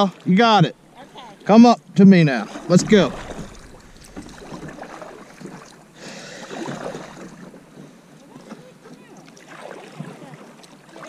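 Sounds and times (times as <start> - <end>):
kayak paddle pulling through water: 0.0 - 11.0
light water splashes and drips: 1.4 - 11.0.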